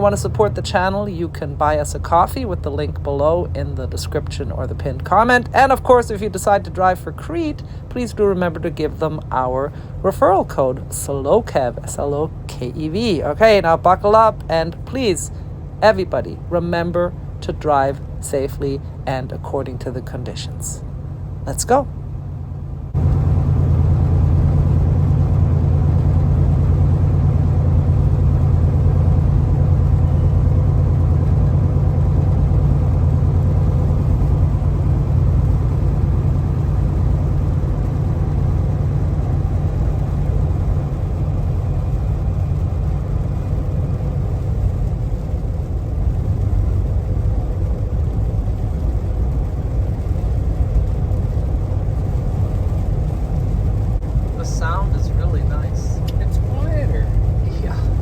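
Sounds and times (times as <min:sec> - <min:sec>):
faint steady hum: 0:00.0 - 0:58.0
truck engine and road drone: 0:00.0 - 0:58.0.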